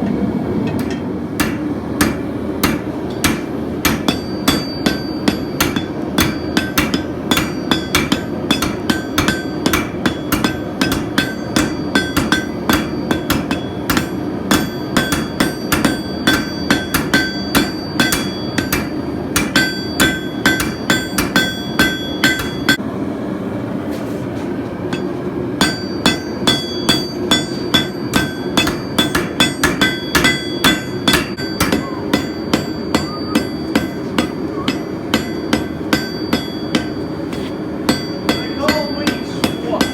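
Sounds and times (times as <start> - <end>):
low forge roar: 0.0 - 39.9
hammer ringing on anvil: 0.7 - 22.8, 24.9 - 39.9.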